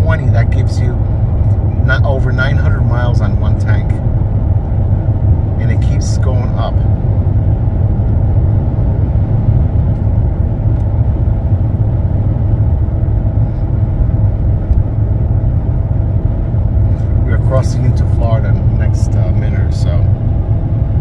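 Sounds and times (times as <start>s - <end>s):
car cabin low rumble: 0.0s - 21.0s.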